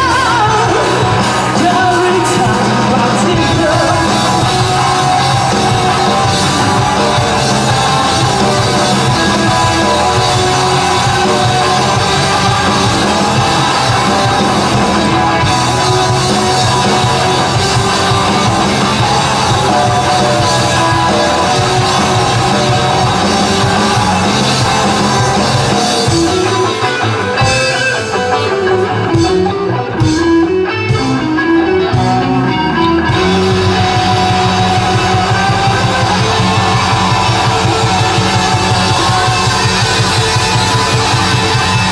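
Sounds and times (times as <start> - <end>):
drum kit: 0.0 - 41.9
electric guitar: 0.0 - 41.9.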